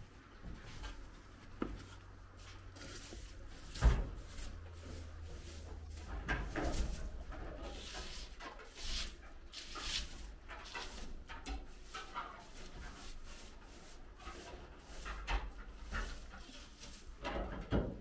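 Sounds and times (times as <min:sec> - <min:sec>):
duster swishing on window: 0:00.7 - 0:17.7.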